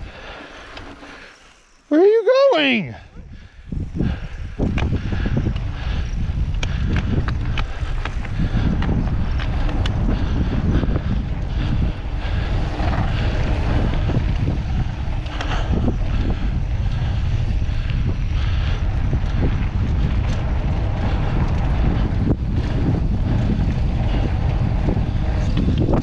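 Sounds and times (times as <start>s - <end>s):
tyres rolling over dirt: 0.0s - 2.9s, 6.5s - 17.7s, 18.8s - 26.0s
wind buffeting microphone: 2.6s - 26.0s.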